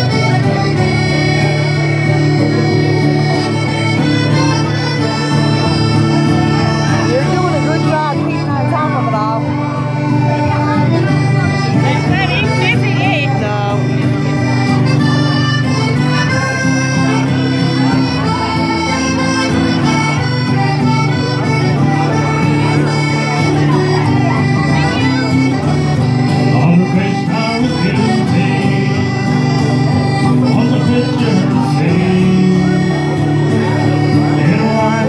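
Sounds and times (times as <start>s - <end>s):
accordion playing lively folk tune: 0.0s - 35.0s
strummed acoustic guitar: 0.0s - 35.0s.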